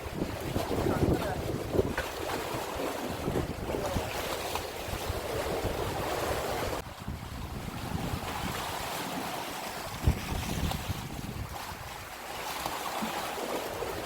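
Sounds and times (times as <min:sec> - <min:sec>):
wind buffeting microphone: 0:00.0 - 0:12.2
sea surf washing on shore: 0:00.0 - 0:14.0.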